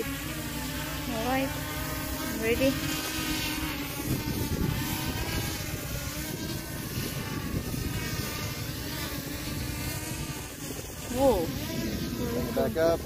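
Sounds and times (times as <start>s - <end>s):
drone propellers whining: 0.0s - 13.0s
wind buffeting microphone: 2.1s - 13.0s.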